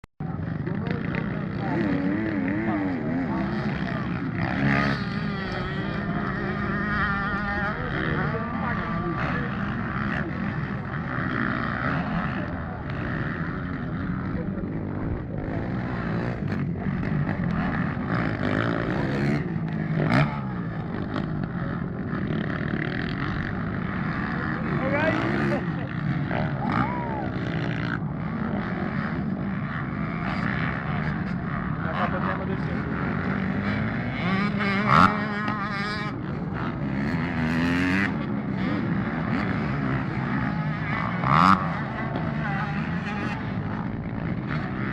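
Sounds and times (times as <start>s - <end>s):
motorcycle engines revving: 0.2s - 44.9s.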